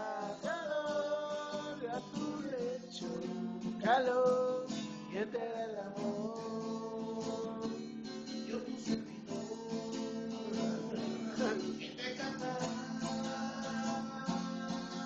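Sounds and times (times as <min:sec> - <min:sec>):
acoustic guitar strumming: 0:00.0 - 0:15.0
person singing: 0:00.0 - 0:15.0.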